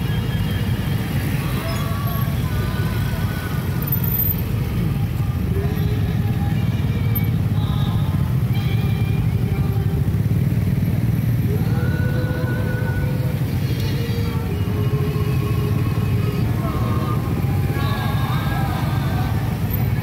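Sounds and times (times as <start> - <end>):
motorcycle engines rumbling: 0.0 - 20.0.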